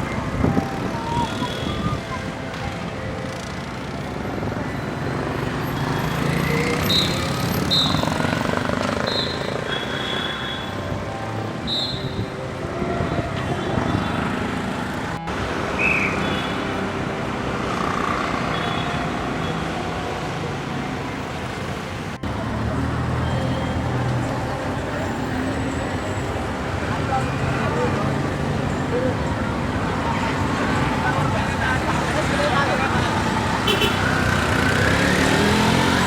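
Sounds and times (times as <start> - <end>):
vehicle engines and road noise: 0.0 - 36.0.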